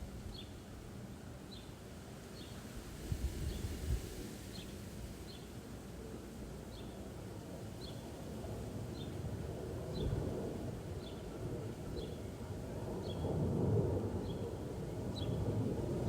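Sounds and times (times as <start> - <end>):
low wind gusts: 0.0 - 16.0.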